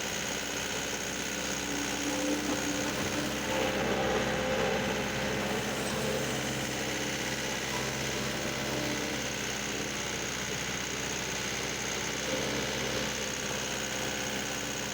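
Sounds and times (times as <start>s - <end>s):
tractor engine idling: 0.0s - 14.9s.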